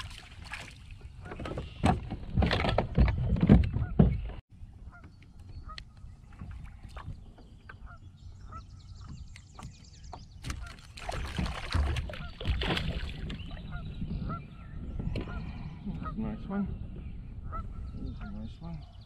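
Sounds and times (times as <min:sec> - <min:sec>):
water splashing and sloshing: 0:00.0 - 0:15.4.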